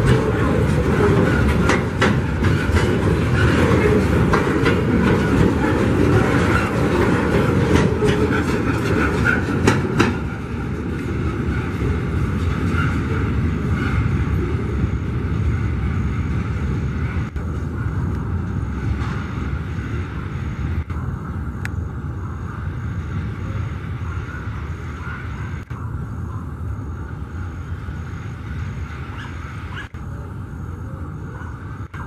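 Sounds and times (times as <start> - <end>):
freight train rumbling on rails: 0.0 - 32.0.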